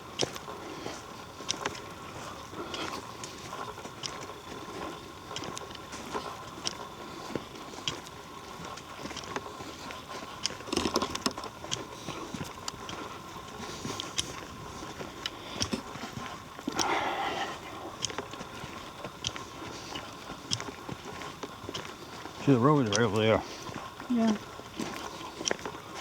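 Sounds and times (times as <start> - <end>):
footsteps on dirt trail: 0.0 - 26.0.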